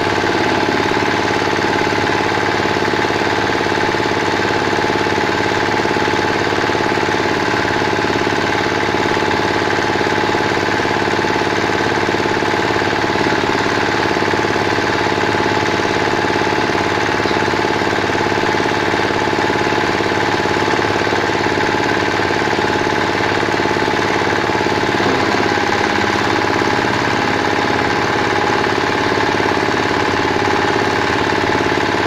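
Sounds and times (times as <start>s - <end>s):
diesel engine knocking steadily: 0.0s - 32.0s.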